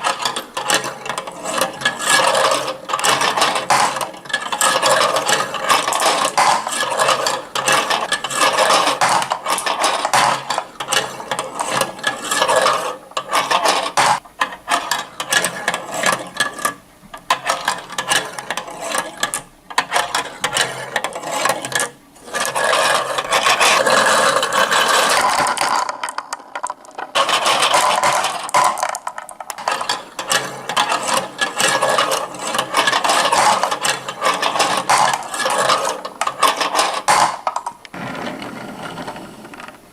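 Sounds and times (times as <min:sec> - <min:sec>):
marbles rattling down a track: 0:00.0 - 0:16.6, 0:17.3 - 0:39.8.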